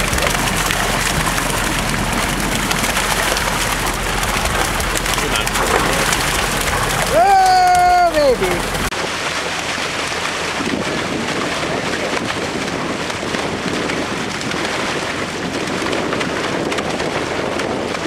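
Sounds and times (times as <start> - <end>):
water gushing into lake: 0.0 - 18.0.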